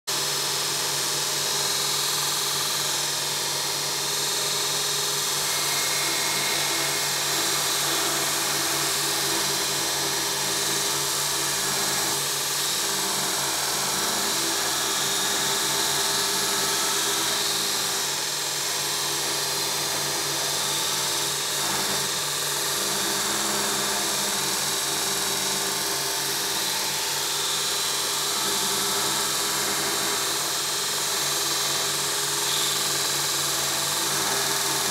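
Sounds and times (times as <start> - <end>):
belt grinder grinding steel: 1.1 - 34.9
motor hum: 1.6 - 34.9.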